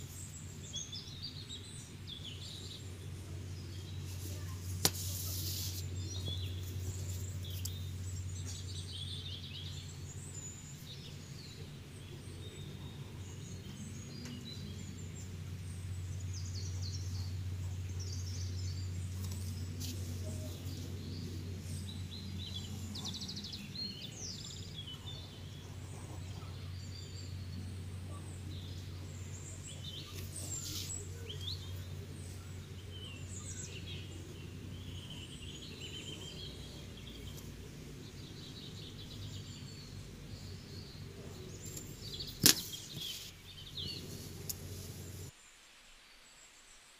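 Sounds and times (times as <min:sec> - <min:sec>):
birds chirping and twittering: 0:00.0 - 0:45.4
steady low hum: 0:00.0 - 0:45.4.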